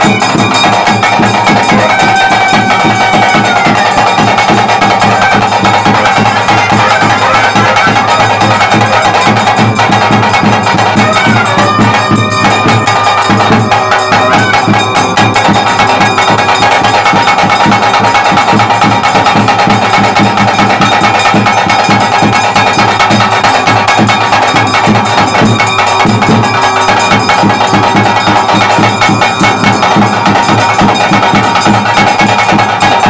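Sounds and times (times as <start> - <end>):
fast drumming and percussion: 0.0 - 33.0
held pipe tone: 0.0 - 33.0.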